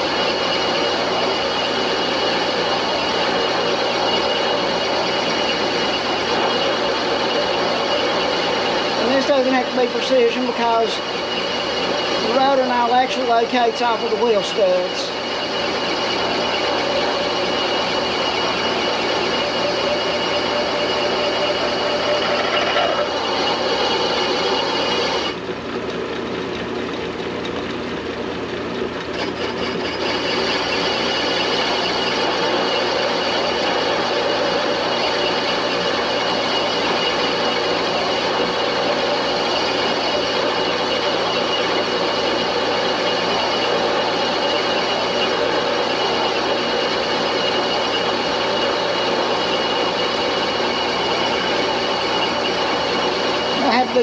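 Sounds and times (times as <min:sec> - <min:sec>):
lathe tool cutting metal: 0:00.0 - 0:54.0
metal lathe running: 0:00.0 - 0:54.0.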